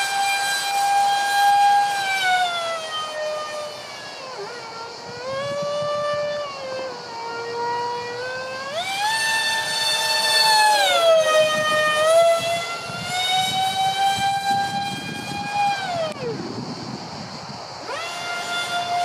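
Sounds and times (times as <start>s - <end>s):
electric ducted fans whining: 0.0s - 19.0s.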